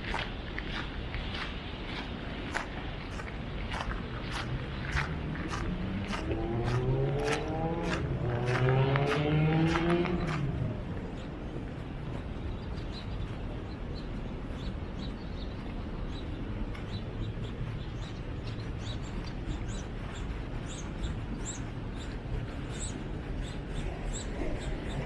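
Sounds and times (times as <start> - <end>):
low background rush: 0.0 - 25.0
small birds chirping: 0.0 - 25.0.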